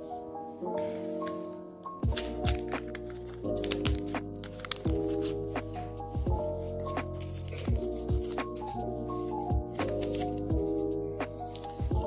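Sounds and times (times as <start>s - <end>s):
sustained keyboard chords: 0.0s - 12.0s.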